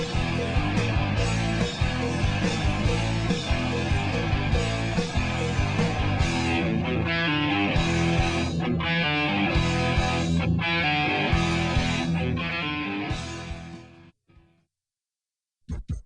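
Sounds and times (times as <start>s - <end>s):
instrumental rock music with guitar: 0.0s - 14.2s.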